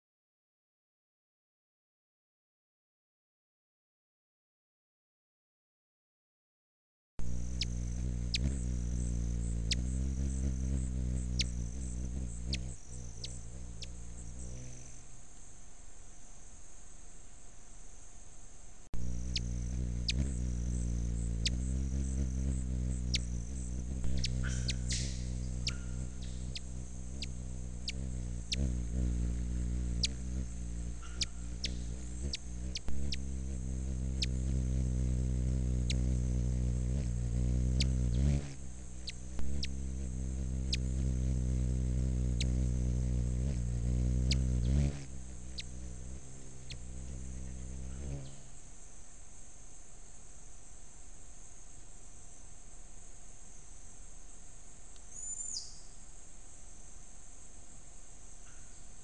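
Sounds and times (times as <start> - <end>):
high insect whine: 7.2 - 59.0
hummingbird wings humming: 7.2 - 59.0.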